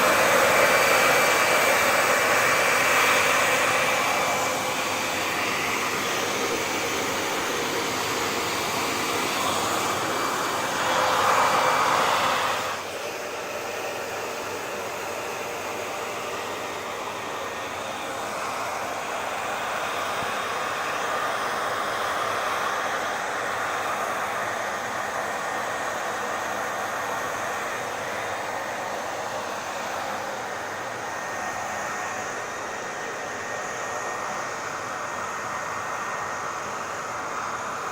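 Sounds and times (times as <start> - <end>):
hair dryer blowing: 0.0 - 37.9.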